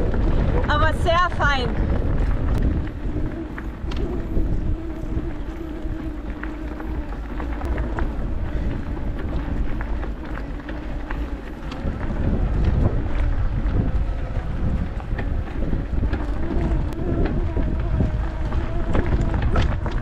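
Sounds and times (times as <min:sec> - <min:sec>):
electric bike motor hum: 0:00.0 - 0:20.0
wind buffeting microphone: 0:00.0 - 0:20.0.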